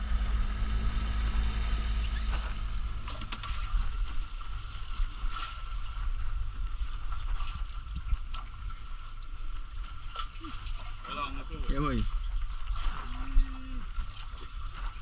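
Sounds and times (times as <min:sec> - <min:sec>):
outboard motors running: 0:00.0 - 0:15.0
water against hull: 0:00.0 - 0:15.0
wind: 0:00.0 - 0:15.0.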